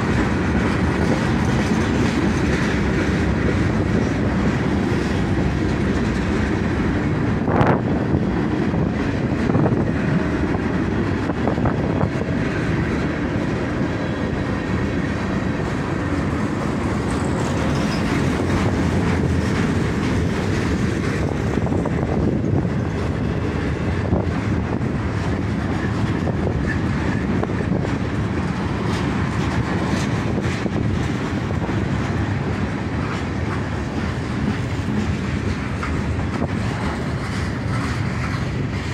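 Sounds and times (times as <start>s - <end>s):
train wheels rumbling on rails: 0.0s - 38.9s
wheels clanking over rail joints: 0.0s - 38.9s.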